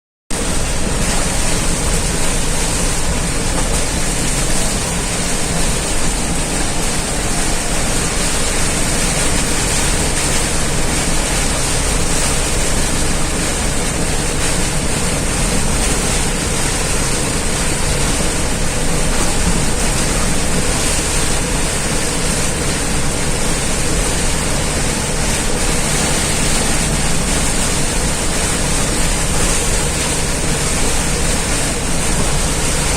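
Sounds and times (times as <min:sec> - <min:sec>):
heavy rain pouring: 0:00.3 - 0:32.9.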